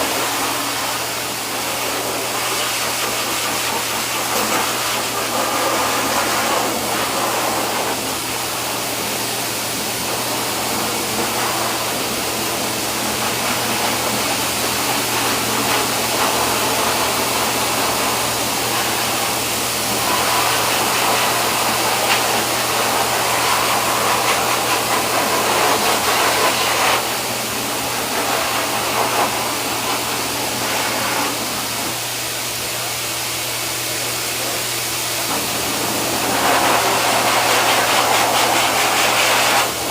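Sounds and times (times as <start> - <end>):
rushing hiss of air: 0.0 - 39.9.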